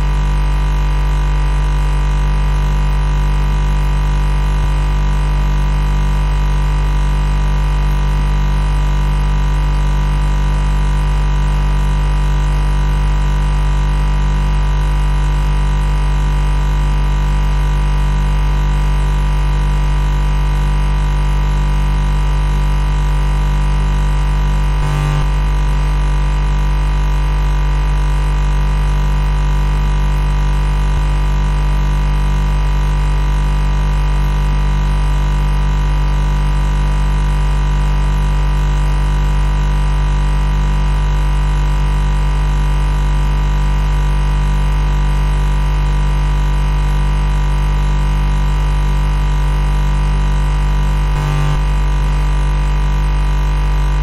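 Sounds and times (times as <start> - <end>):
refrigerator compressor humming: 0.0 - 54.0.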